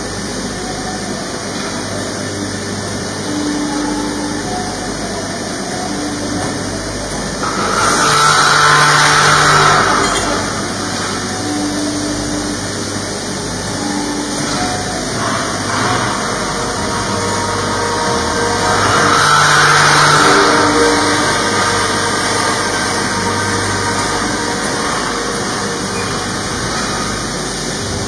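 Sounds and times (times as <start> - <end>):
machine humming: 0.0 - 28.0
motor whines: 1.8 - 28.0.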